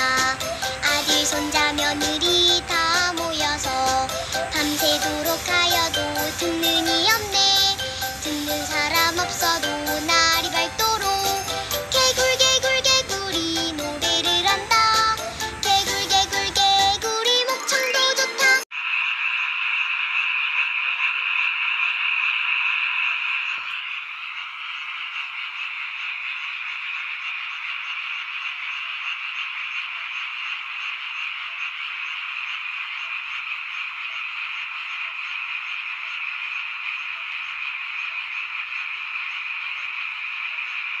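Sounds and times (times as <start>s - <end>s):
chorus of frogs calling: 0.0s - 41.0s.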